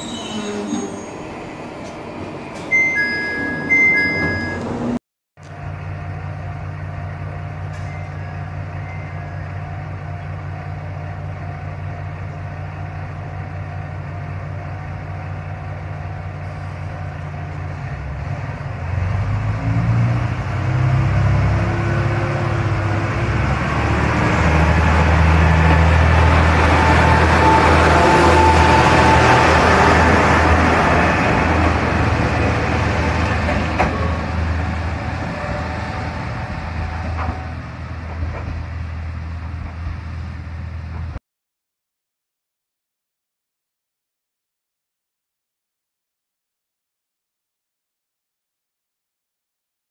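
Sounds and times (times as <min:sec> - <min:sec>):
diesel railcar engine: 0:00.0 - 0:41.2.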